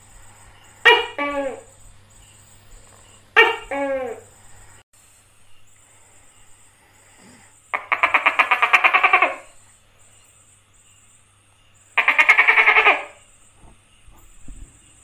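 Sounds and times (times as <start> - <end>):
gecko calling rattle: 0.0 - 15.0.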